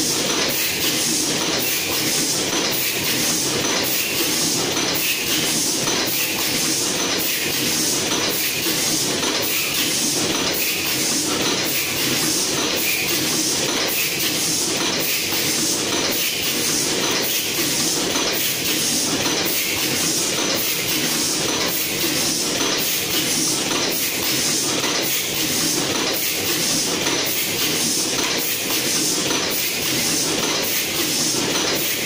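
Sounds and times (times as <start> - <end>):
machine clatter and hiss: 0.0 - 32.0.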